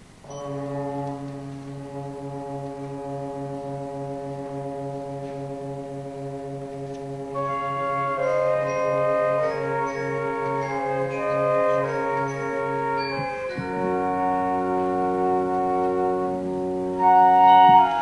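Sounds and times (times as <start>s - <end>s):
concert band playing: 0.0s - 18.0s.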